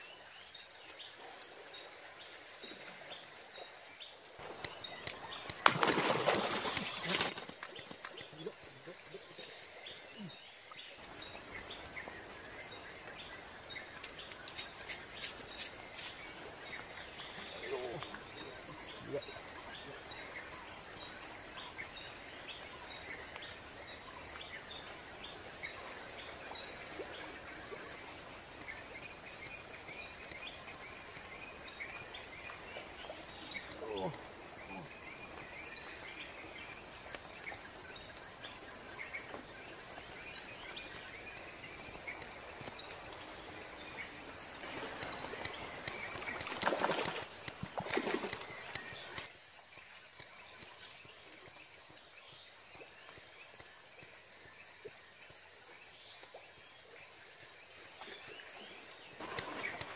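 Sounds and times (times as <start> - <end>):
insects hissing: 0.0 - 59.9.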